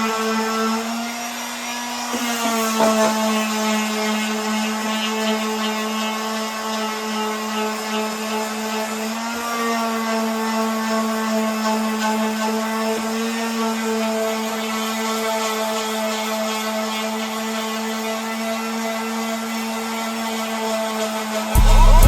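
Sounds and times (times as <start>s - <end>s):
power sander running: 0.0s - 22.0s.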